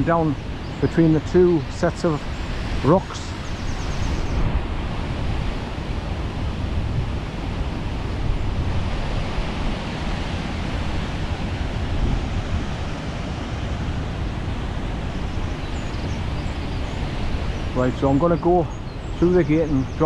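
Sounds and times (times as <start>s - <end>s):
waterfall roaring: 0.0s - 20.0s
wind buffeting microphone: 0.0s - 20.0s.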